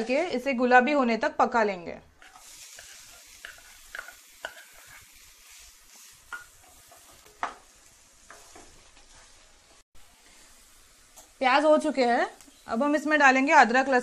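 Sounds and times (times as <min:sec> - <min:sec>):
onions sizzling in oil: 0:02.2 - 0:14.0.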